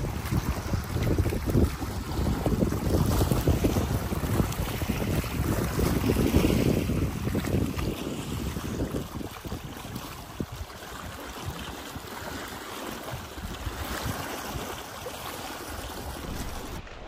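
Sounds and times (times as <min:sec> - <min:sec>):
wind gusts on microphone: 0:00.0 - 0:17.0.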